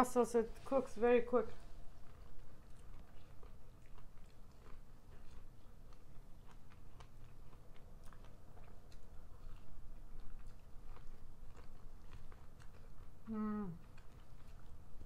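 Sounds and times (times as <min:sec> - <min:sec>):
chewing corn on the cob: 0:00.5 - 0:15.0.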